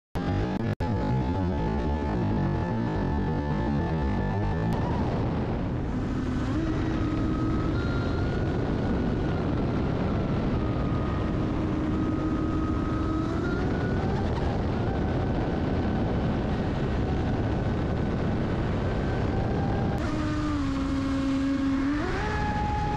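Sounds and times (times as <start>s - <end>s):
electric motor whining: 0.2s - 22.9s
wind rushing: 4.2s - 22.9s.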